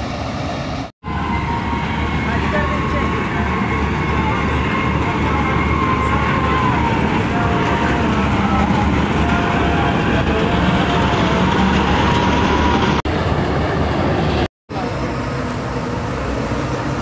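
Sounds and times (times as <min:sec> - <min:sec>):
combine harvester drone: 0:00.0 - 0:17.0.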